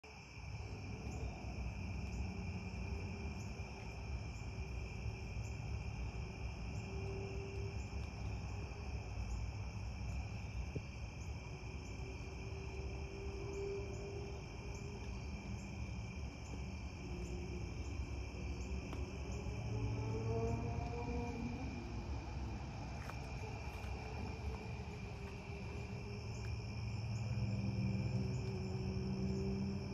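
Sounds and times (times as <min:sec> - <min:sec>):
crickets chirring: 0:00.0 - 0:29.9
low steady rumble: 0:00.4 - 0:29.9.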